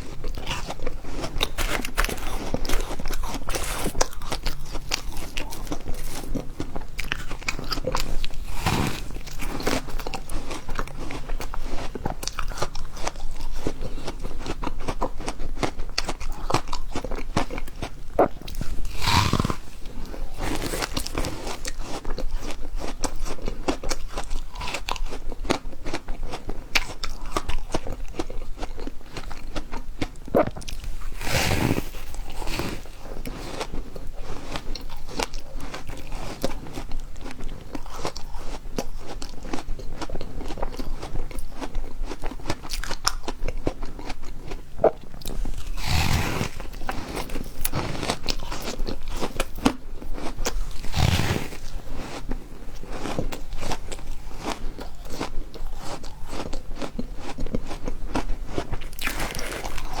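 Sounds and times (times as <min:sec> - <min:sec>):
ice being chewed crunching: 0:00.0 - 1:00.0.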